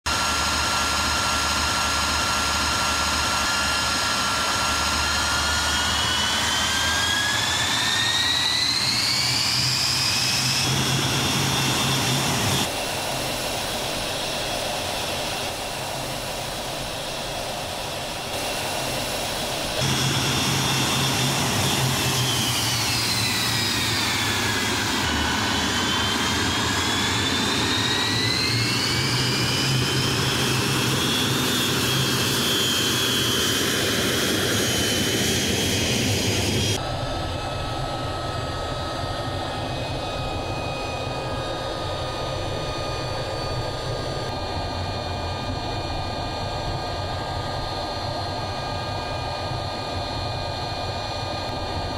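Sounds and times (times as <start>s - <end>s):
jet engine whine: 0.1s - 51.9s.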